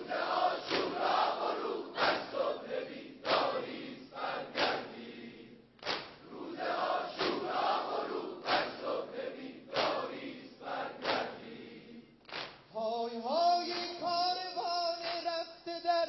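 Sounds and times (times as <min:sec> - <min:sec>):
crowd slapping chests in unison: 0:00.0 - 0:12.7, 0:13.7 - 0:14.1, 0:15.0 - 0:15.4.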